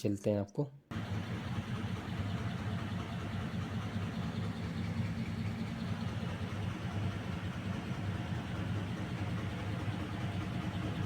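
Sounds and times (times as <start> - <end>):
air conditioner blower drone: 0.9 - 11.0.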